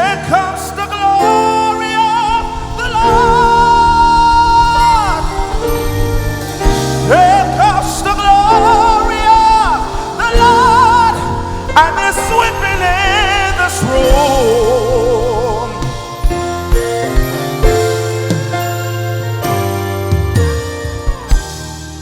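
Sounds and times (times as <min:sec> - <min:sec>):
person singing with vibrato: 0:00.0 - 0:18.6
bass: 0:00.0 - 0:22.0
keyboard chords: 0:00.0 - 0:22.0.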